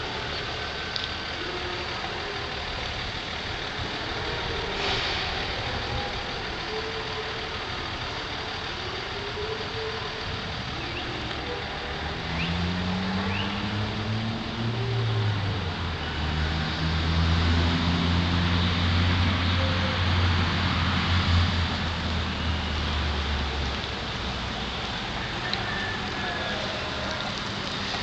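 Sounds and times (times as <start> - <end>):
vehicle engines running: 0.0 - 28.0.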